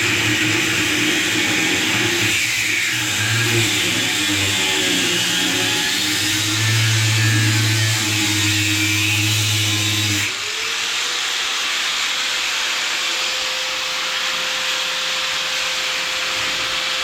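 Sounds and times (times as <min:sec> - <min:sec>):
angle grinder cutting metal: 0:00.0 - 0:17.0.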